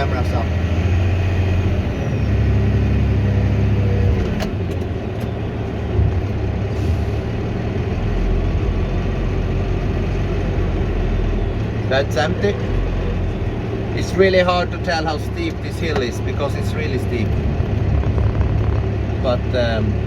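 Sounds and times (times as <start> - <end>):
dump truck diesel engine running: 0.0 - 20.0.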